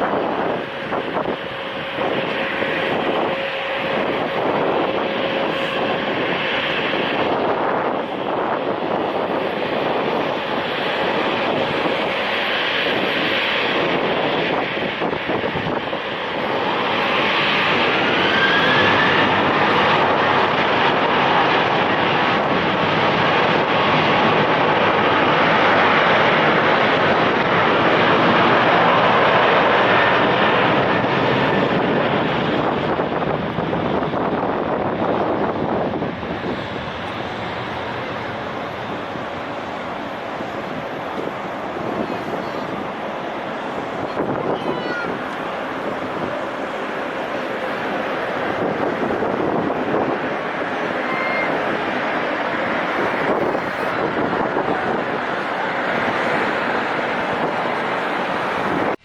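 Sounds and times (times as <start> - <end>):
jet engines rushing: 0.0 - 59.0.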